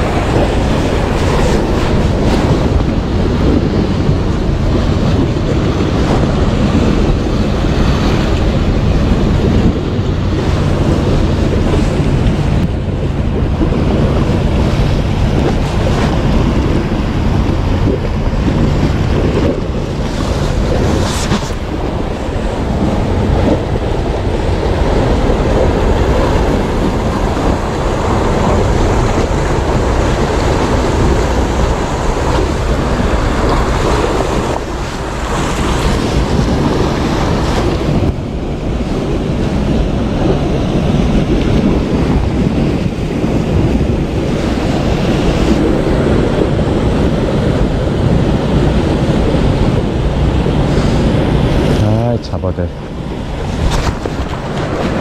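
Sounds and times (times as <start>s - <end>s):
sea waves: 0.0s - 55.0s
wind buffeting microphone: 0.0s - 55.0s.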